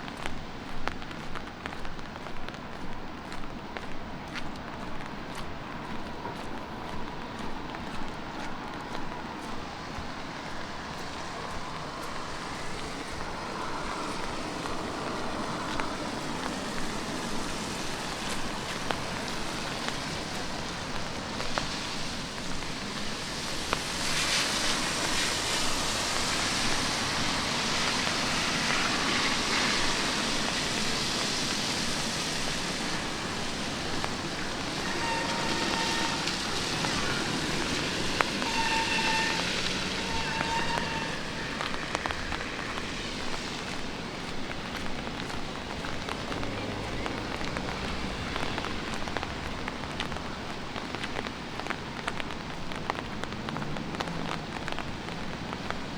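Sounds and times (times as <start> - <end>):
distant traffic: 0.0 - 55.9
rain on wet pavement: 0.0 - 55.9.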